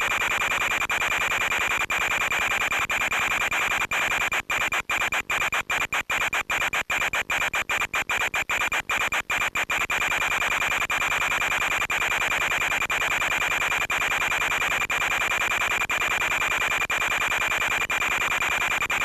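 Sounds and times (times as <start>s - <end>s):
radio static hiss with high whistle: 0.0s - 19.0s.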